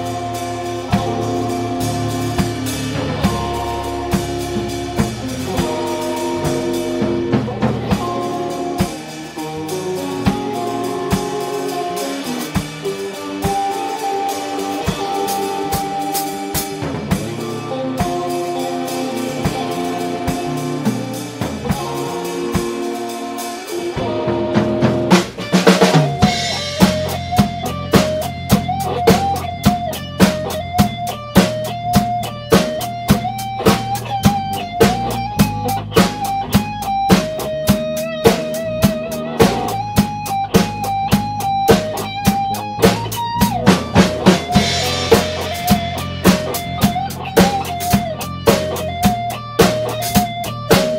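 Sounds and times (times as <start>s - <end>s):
drum kit: 0.0s - 50.9s
electric bass: 0.0s - 50.9s
electric guitar melody: 0.0s - 50.9s.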